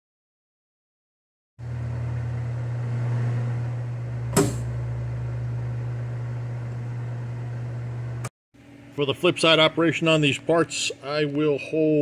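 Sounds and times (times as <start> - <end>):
machine equipment humming: 1.6 - 11.7.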